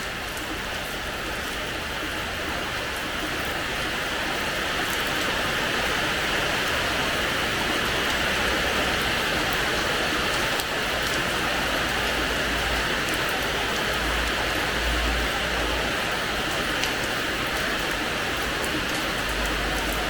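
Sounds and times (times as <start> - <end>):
rain on a hard floor: 0.0 - 20.0.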